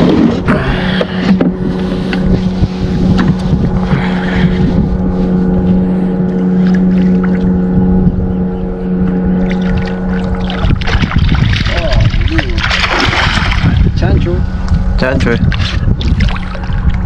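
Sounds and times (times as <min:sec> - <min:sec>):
outboard motor humming: 0:00.0 - 0:17.0
wind buffeting microphone: 0:00.0 - 0:17.0.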